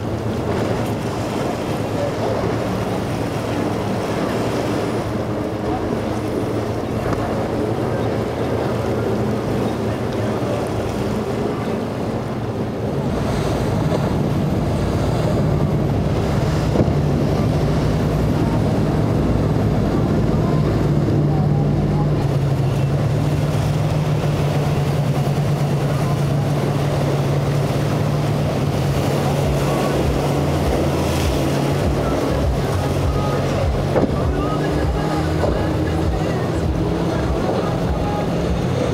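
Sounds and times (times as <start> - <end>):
motorboat engines droning: 0.0 - 38.9
waves splashing: 0.0 - 38.9.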